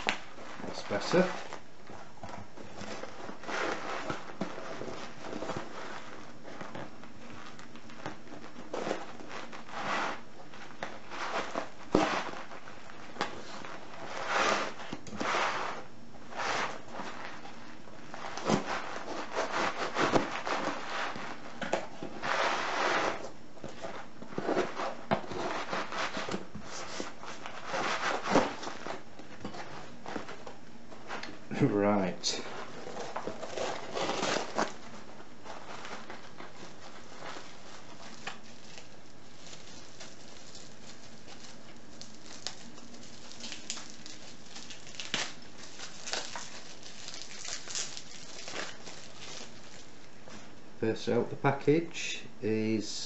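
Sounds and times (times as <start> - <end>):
parcel packaging rustling and tearing: 0.0 - 31.4, 32.4 - 50.6.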